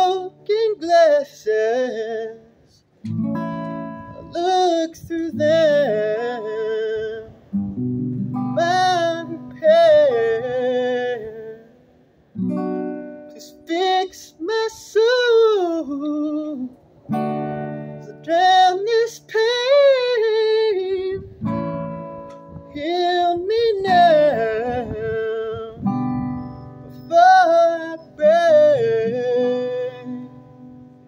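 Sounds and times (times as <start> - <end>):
man singing: 0.0 - 2.8, 4.1 - 7.5, 8.4 - 11.8, 13.3 - 16.8, 18.0 - 21.5, 22.6 - 30.8
acoustic guitar strumming: 0.0 - 31.0.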